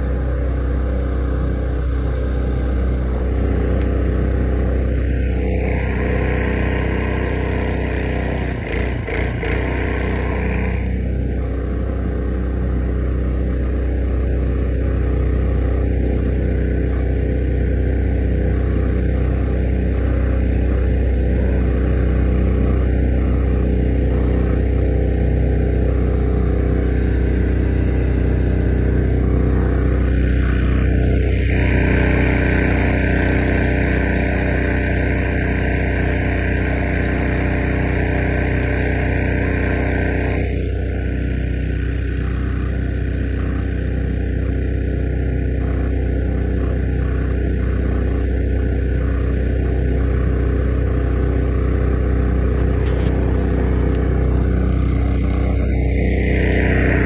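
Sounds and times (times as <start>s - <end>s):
boat motor running at speed: 0.0s - 57.0s.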